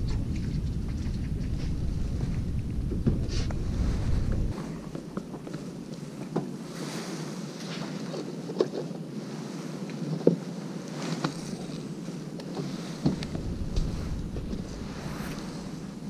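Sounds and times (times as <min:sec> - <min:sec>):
steady wind: 0:00.0 - 0:16.0
water ambience: 0:00.0 - 0:16.0.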